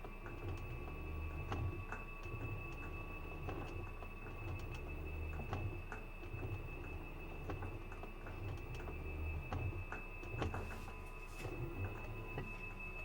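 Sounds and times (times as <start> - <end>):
washing machine spinning hum: 0.0 - 13.0.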